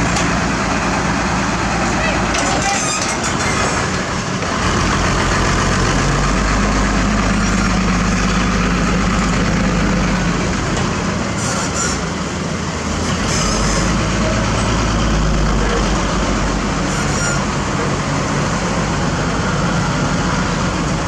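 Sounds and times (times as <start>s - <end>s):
heavy machinery diesel engine running: 0.0s - 21.0s.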